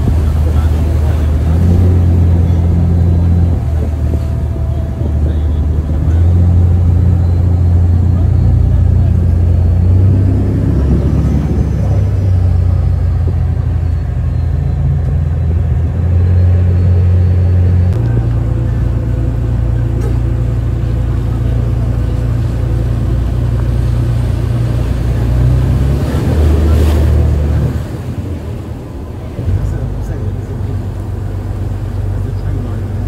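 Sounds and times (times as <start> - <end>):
motorboat engine rumble: 0.0 - 33.0
water rushing along hull: 0.0 - 33.0.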